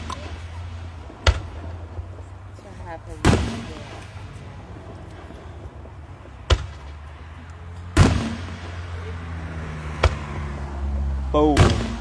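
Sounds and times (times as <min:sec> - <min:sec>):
fireworks shells exploding: 0:00.0 - 0:12.0.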